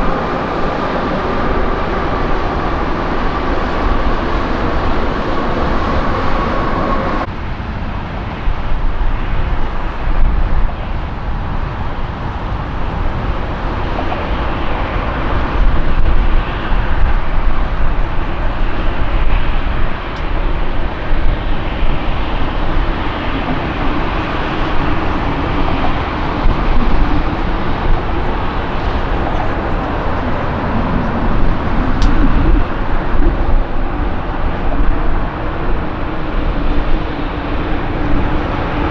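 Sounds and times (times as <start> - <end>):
high engine whine: 0.0 - 38.9
jet engines roaring: 0.0 - 38.9.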